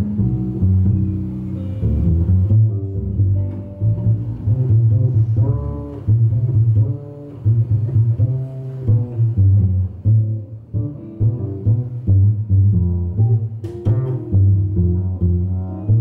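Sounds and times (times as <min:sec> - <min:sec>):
electric guitar playing chords: 0:00.0 - 0:16.0
plucked double bass: 0:00.0 - 0:16.0.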